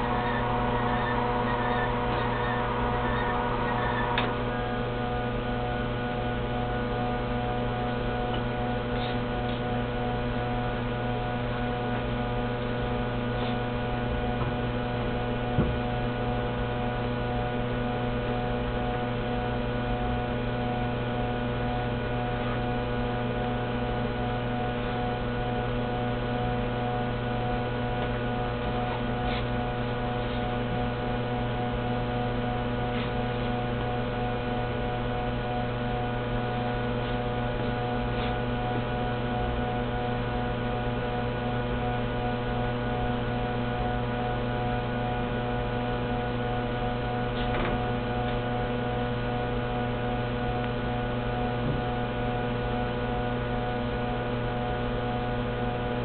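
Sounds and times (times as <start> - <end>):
machine electrical hum: 0.0 - 56.0.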